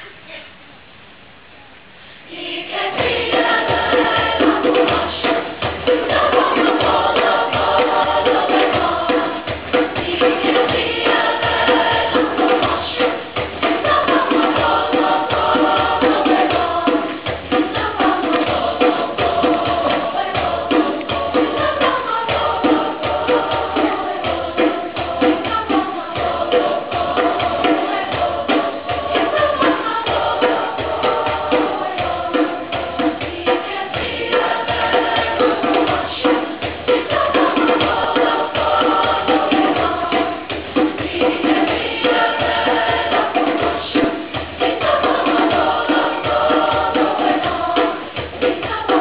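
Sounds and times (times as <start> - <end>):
children's choir singing: 2.2 - 49.0
accompaniment with steady beat: 2.3 - 49.0.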